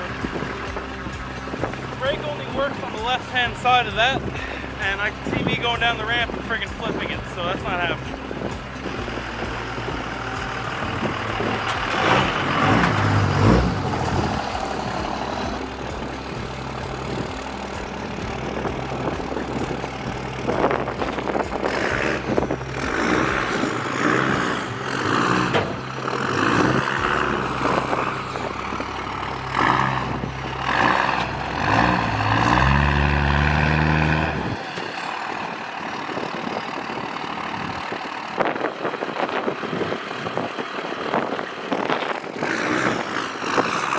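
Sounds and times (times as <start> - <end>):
diesel truck engine revving: 0.0 - 43.9.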